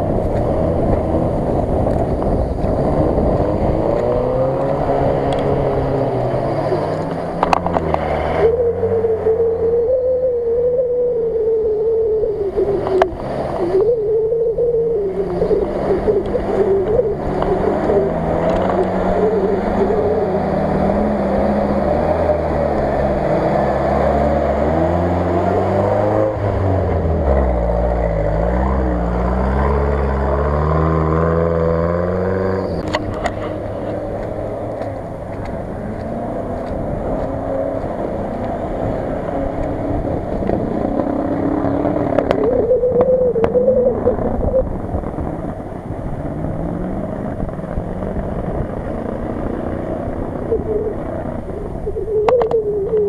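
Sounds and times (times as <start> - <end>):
off-road engines revving: 0.0 - 53.0.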